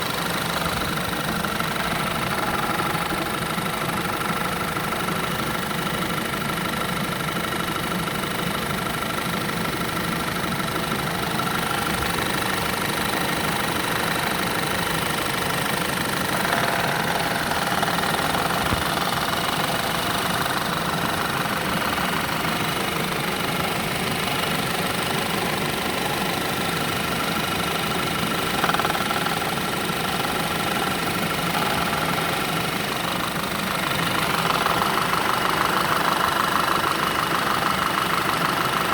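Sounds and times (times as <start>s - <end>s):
car engine idling: 0.0s - 38.9s
fast repetitive engine knock: 0.0s - 38.9s.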